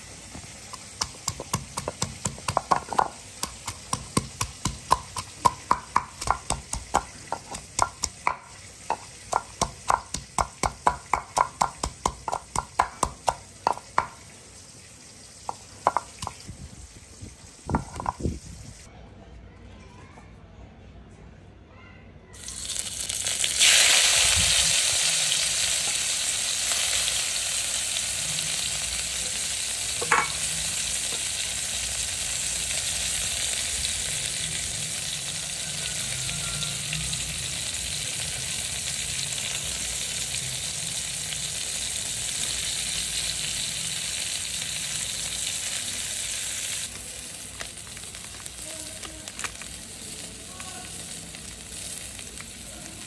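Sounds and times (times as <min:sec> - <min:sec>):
chillies sizzling in hot oil: 0:00.0 - 0:18.9, 0:22.4 - 0:53.0.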